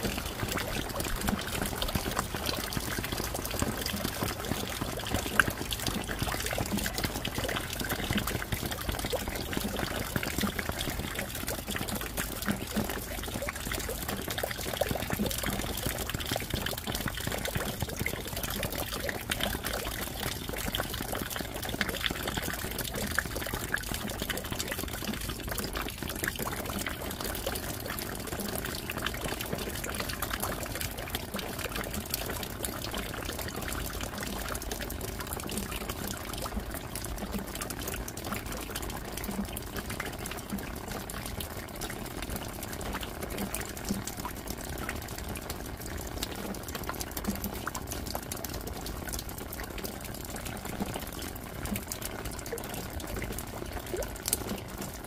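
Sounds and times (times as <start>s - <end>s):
running pouring water: 0.0s - 55.0s.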